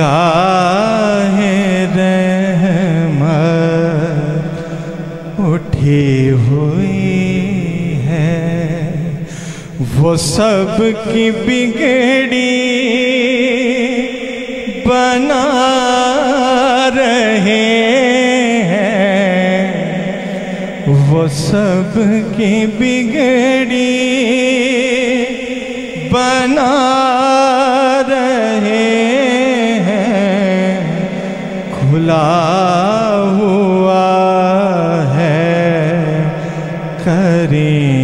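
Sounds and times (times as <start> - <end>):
man singing unaccompanied: 0.0 - 38.0.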